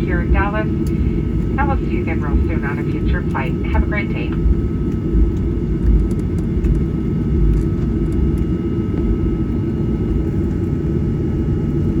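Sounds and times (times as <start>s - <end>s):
faint steady whine: 0.0s - 12.0s
low rumble of aircraft cabin: 0.0s - 12.0s.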